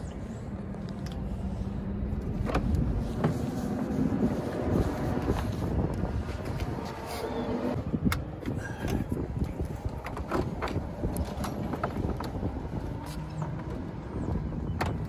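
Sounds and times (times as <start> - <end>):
wind on microphone: 1.4 - 15.0.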